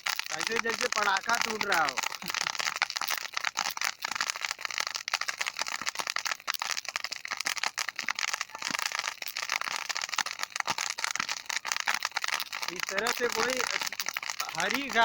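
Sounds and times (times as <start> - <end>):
burning grass crackling: 0.0 - 15.0.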